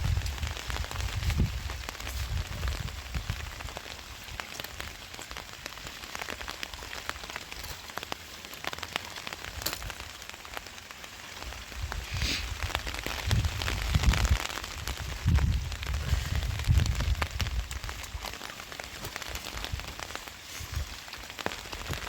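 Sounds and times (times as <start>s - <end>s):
rain hissing: 0.0s - 22.0s
raindrops ticking: 0.0s - 22.0s.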